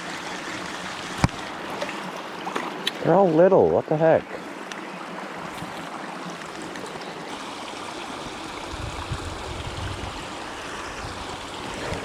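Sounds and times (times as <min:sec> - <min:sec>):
water running steadily: 0:00.0 - 0:12.0.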